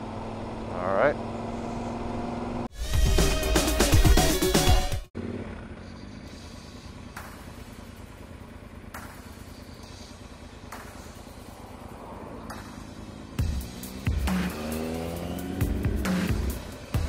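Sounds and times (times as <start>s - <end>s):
motorcycle engine rumble: 0.0s - 2.7s, 5.1s - 17.0s
road noise: 0.0s - 2.7s, 5.1s - 17.0s.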